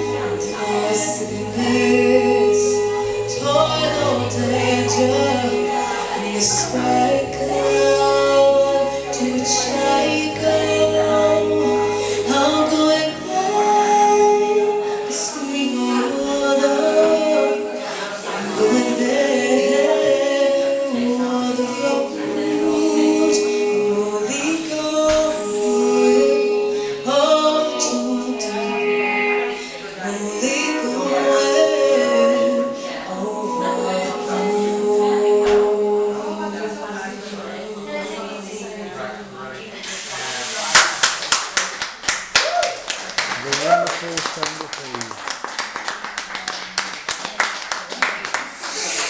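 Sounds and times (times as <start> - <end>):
live band with sung vocals: 0.0 - 41.0.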